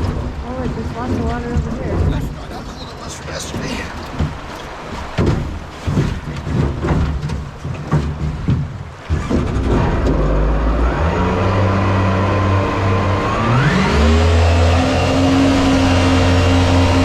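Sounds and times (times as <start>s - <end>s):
boat engine revving: 0.0s - 17.0s.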